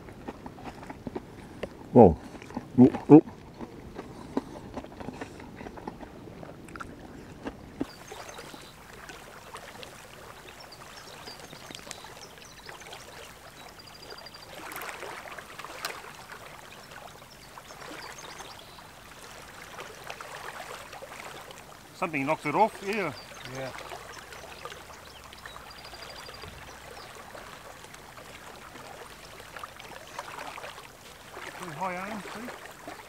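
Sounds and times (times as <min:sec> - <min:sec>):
small waves lapping on shore: 0:00.0 - 0:33.0.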